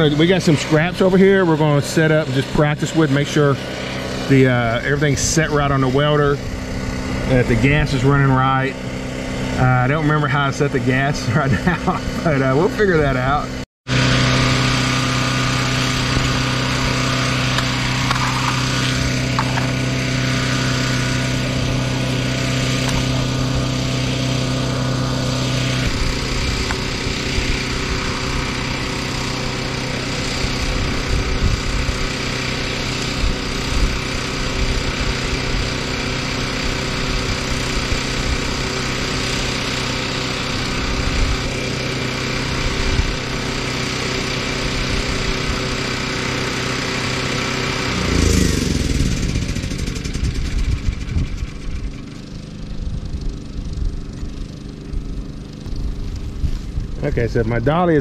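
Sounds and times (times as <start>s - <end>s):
generator engine running: 0.0s - 58.0s.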